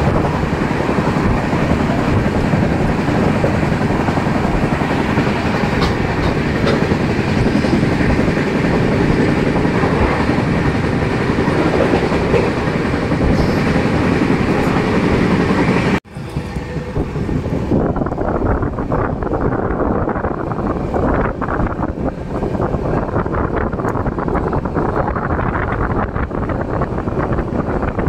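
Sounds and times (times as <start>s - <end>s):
rushing air: 0.0s - 28.0s
train wheels rumbling on rails: 0.0s - 28.0s.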